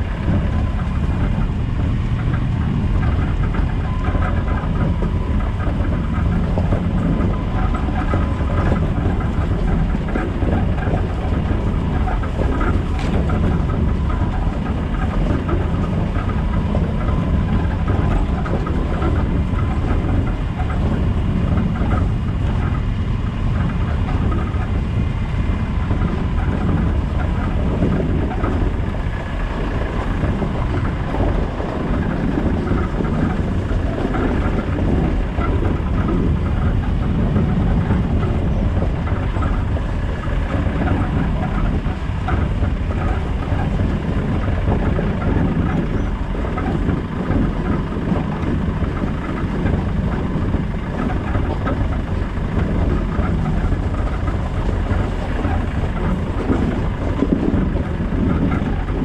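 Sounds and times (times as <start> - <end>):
diesel engine low rumble: 0.0 - 59.0
rattles and road noise: 0.0 - 59.0.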